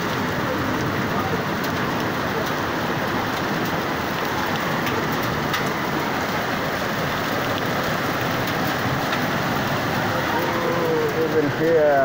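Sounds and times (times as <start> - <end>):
heavy rain and hail falling: 0.0 - 12.0.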